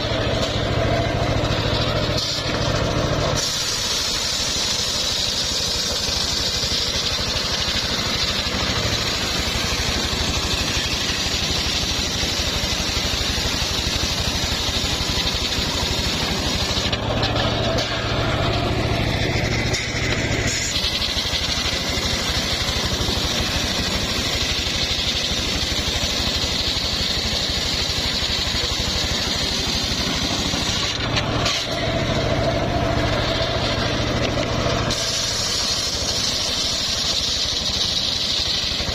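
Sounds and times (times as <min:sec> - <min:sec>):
engine pulsing: 0:00.0 - 0:38.9
sawmill blade cutting log: 0:00.0 - 0:38.9.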